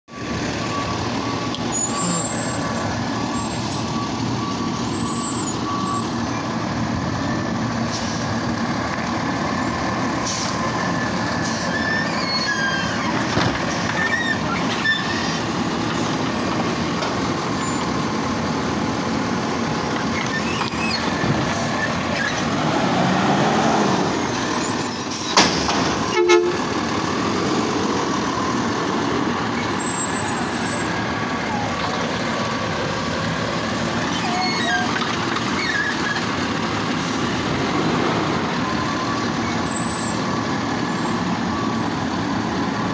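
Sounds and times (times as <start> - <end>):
garbage truck running: 0.1 - 42.9.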